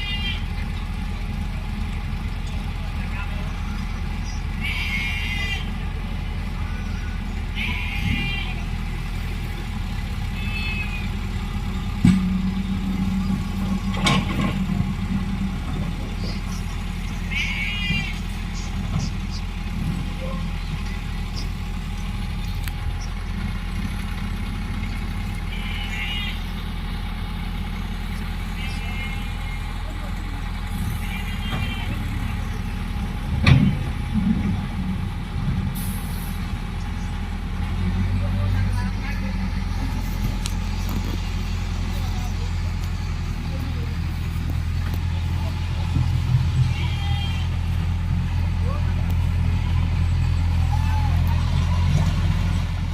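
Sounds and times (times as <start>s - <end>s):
diesel engine rumbling: 0.0s - 52.9s.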